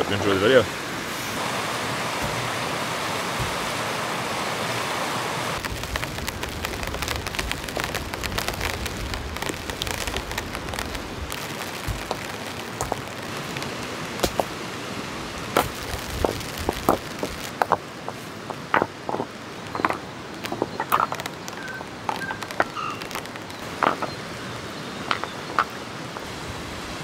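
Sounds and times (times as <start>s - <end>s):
rain hissing: 0.0s - 27.0s
raindrops tapping close by: 2.2s - 4.2s, 5.6s - 24.2s, 25.0s - 26.3s.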